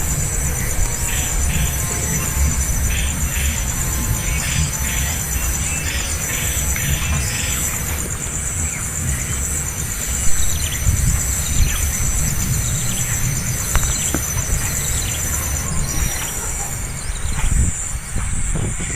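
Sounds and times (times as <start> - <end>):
faint chirps: 0.0 - 18.9
high-pitched insect drone: 0.0 - 18.9
low wind rumble: 0.0 - 18.9.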